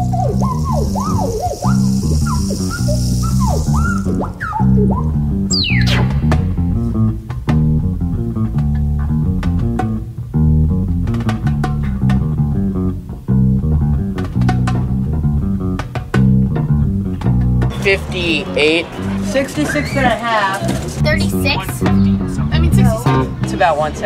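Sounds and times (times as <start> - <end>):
plucked beat: 0.0 - 19.6, 20.7 - 24.0
bass line: 0.0 - 24.0
plucked guitar: 0.0 - 24.0.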